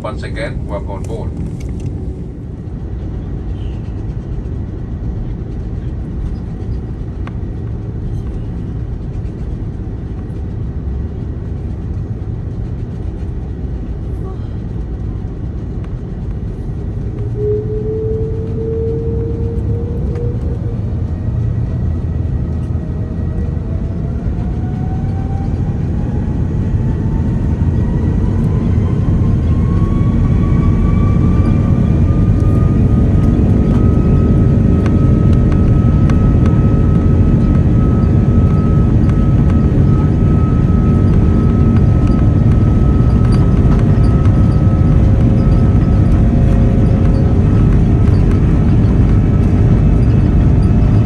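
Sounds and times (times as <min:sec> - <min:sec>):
heavy engine rumble: 0:00.0 - 0:51.0
jet engines spooling up: 0:00.0 - 0:51.0.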